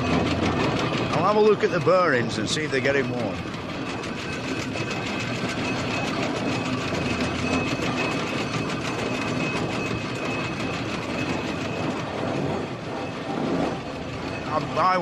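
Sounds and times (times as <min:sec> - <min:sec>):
steam engine mechanical clatter: 0:00.0 - 0:15.0.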